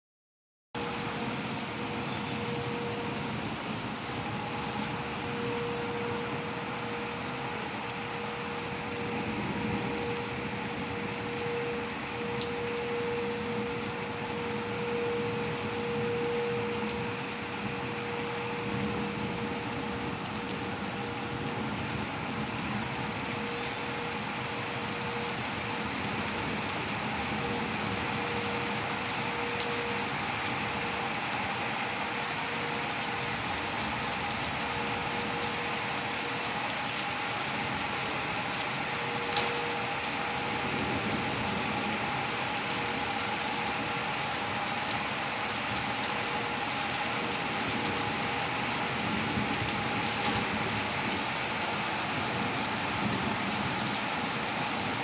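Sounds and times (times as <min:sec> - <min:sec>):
rain falling: 0:00.8 - 0:55.0.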